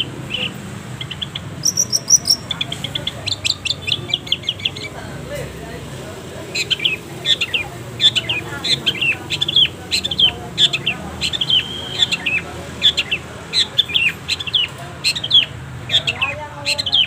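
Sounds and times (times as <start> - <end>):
shrike calling: 0.0 - 5.2, 5.8 - 17.0.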